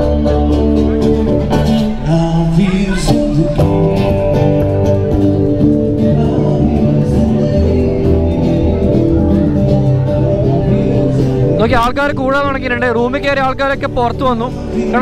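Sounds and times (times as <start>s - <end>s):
person singing: 0.0s - 11.6s, 14.5s - 15.0s
electric guitar: 0.0s - 15.0s
keyboard: 0.0s - 15.0s.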